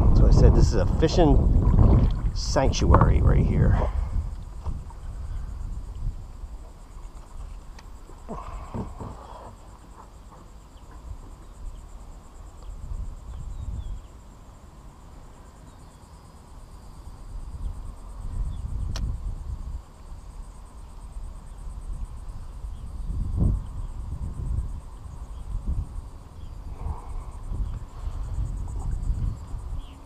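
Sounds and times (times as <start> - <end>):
wind rumbling on microphone: 0.0 - 14.6, 16.6 - 30.0
high-pitched insect trill: 0.1 - 30.0.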